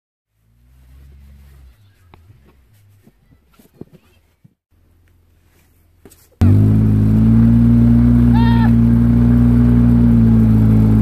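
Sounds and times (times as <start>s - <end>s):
vehicle engine humming: 0.3s - 3.6s, 4.2s - 11.0s.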